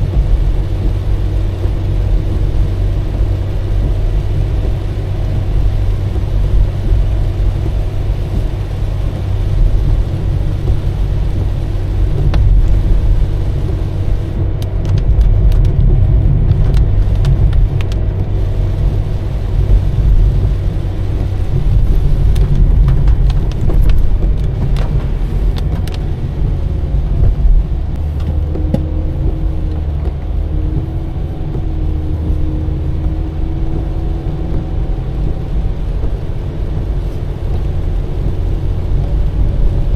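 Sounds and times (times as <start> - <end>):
car engine and tyres rumbling: 0.0 - 39.9
steady hum: 0.0 - 39.9.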